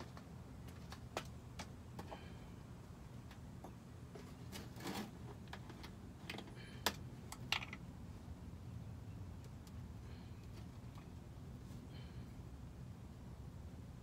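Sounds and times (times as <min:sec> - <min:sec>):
faint low steady hum: 0:00.0 - 0:14.0.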